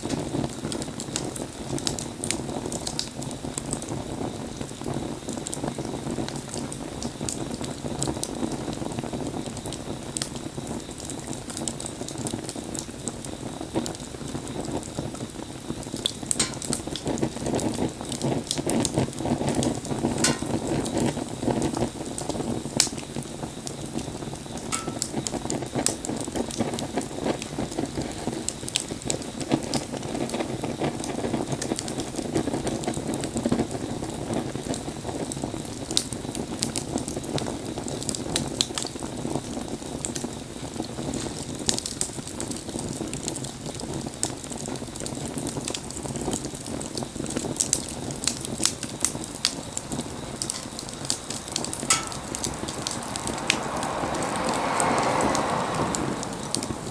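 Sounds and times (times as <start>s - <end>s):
low rush of flames: 0.0s - 56.9s
wood crackling and popping: 0.0s - 56.9s.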